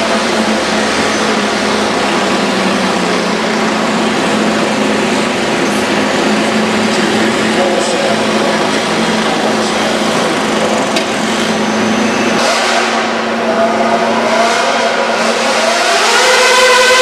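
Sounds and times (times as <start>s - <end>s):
tractor puller engine revving high: 0.0s - 17.0s.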